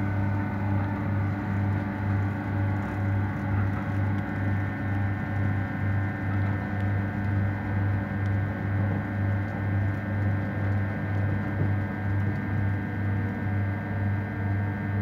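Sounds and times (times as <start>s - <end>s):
faint steady whine: 0.0s - 15.0s
train low throbbing hum: 0.0s - 15.0s.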